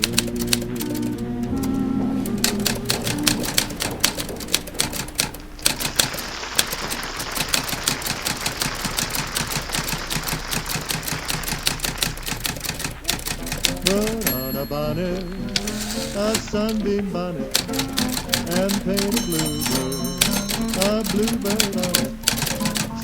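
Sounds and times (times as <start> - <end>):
typewriter keys clacking: 0.0 - 23.0.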